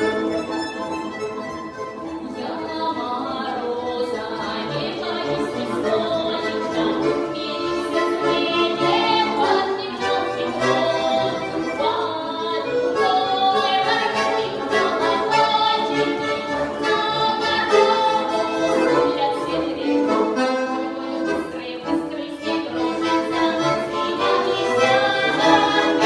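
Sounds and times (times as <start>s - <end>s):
instrumental accompaniment: 0.0s - 26.0s
woman singing: 2.2s - 16.2s, 16.8s - 26.0s.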